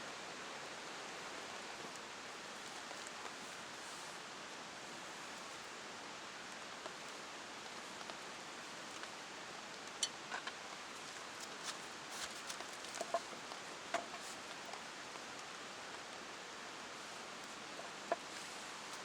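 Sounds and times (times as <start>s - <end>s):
heavy rain hissing: 0.0s - 9.8s, 13.1s - 19.0s.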